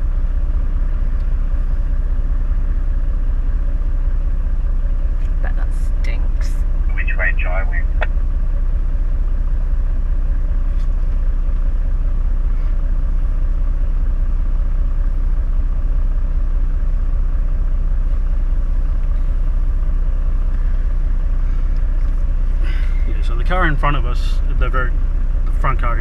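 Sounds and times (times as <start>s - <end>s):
vehicle engine rumble from inside cabin: 0.0s - 26.0s.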